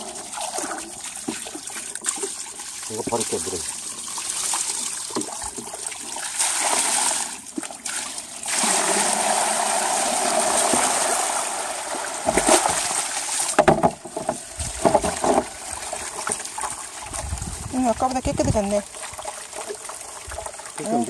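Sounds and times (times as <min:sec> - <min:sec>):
water gushing from hose into basin: 0:00.0 - 0:21.0.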